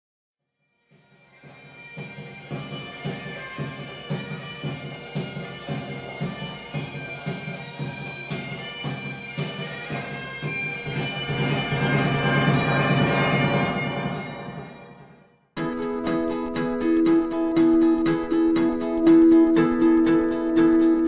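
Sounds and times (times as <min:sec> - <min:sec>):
steady drum beat: 0:01.4 - 0:14.4, 0:15.6 - 0:21.0.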